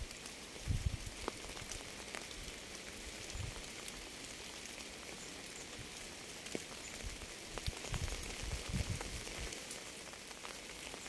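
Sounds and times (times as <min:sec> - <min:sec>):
raindrops ticking: 0:00.0 - 0:11.0
steady rain hiss: 0:00.0 - 0:11.0.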